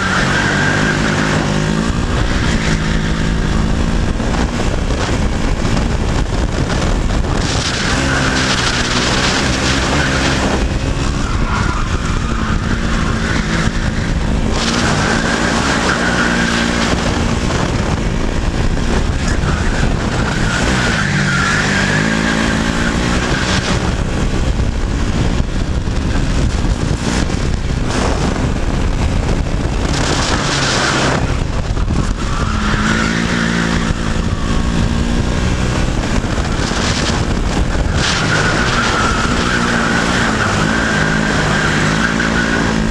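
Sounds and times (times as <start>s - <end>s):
go-kart engine racing: 0.0s - 42.9s.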